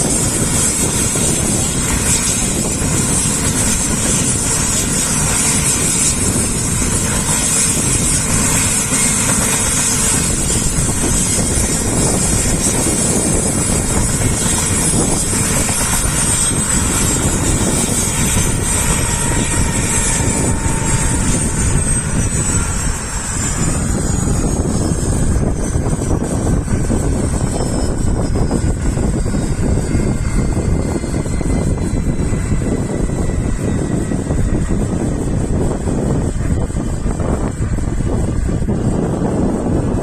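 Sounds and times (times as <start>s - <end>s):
helicopter rotor and engine: 0.0s - 40.0s
high turbine whine: 0.0s - 40.0s
wind buffeting microphone: 0.0s - 40.0s.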